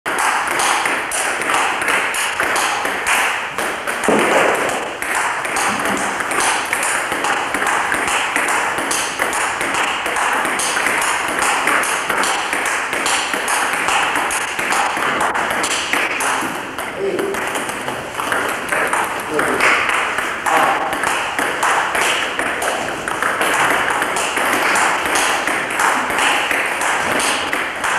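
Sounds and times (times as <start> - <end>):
ping pong ball clicking: 0.1 - 27.9.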